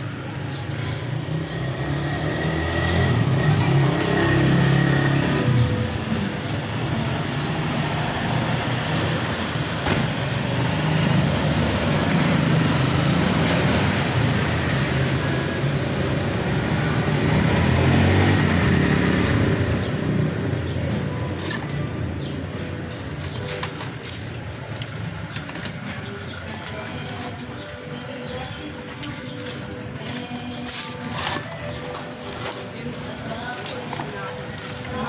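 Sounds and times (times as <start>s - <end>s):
traffic rumbling past: 0.0s - 35.0s.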